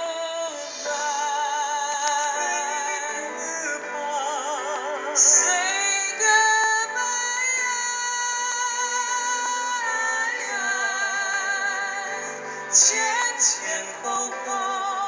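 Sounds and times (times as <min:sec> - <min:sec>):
backing music: 0:00.0 - 0:15.0
high-pitched singing with vibrato: 0:00.0 - 0:15.0.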